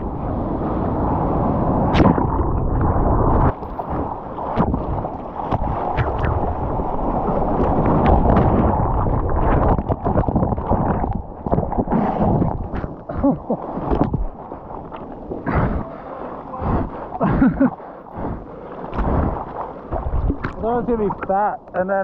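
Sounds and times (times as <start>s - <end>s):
wind buffeting microphone: 0.0s - 16.0s, 16.6s - 21.4s
water splashing on camera: 1.7s - 21.8s.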